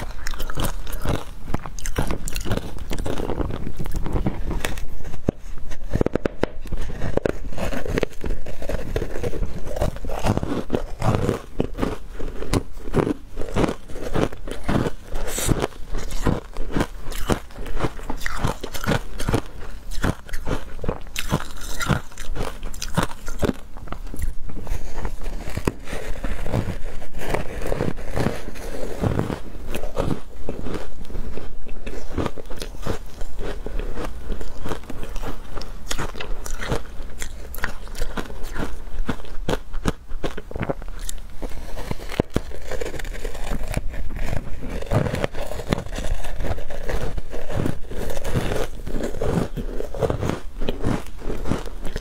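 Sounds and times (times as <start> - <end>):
teeth crunching ice: 0.0 - 52.0.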